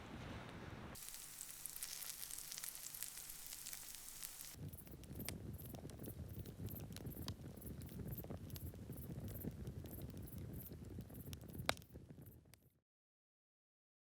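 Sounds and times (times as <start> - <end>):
campfire crackling and popping: 1.0 - 12.6.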